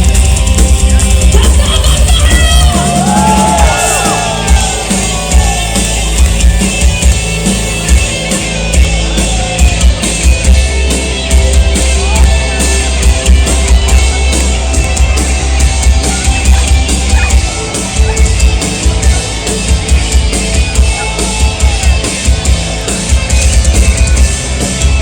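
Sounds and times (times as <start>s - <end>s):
drum kit hitting rapidly: 0.0s - 25.0s
metal band playing: 0.0s - 25.0s.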